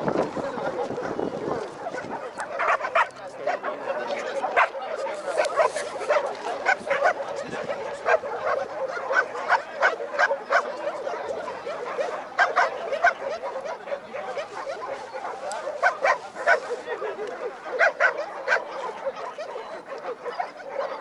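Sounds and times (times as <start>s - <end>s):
dogs barking and yelping: 0.6s - 21.0s.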